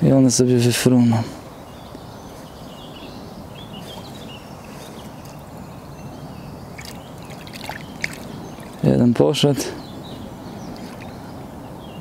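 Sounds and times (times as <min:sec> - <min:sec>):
outdoor background noise: 0:00.0 - 0:12.0
faint bird chirps: 0:01.6 - 0:12.0.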